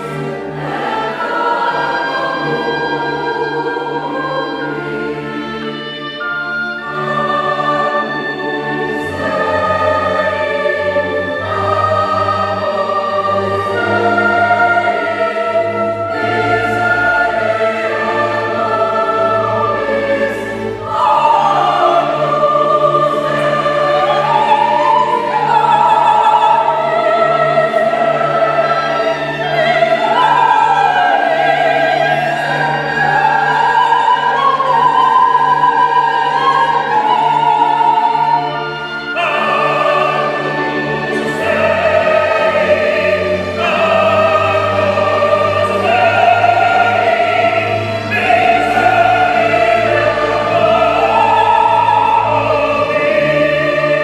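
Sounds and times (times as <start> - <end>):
chamber orchestra chords: 0.0 - 54.0
mixed choir singing: 0.0 - 54.0.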